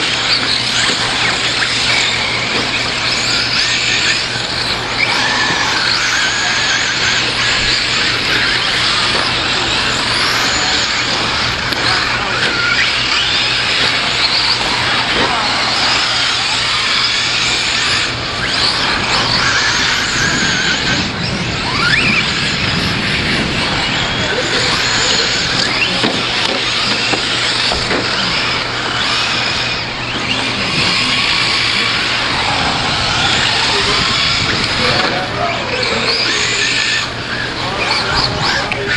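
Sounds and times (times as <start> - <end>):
motor whines rising and falling: 0.0 - 38.9
rc trucks motors and tyres rushing: 0.0 - 38.9.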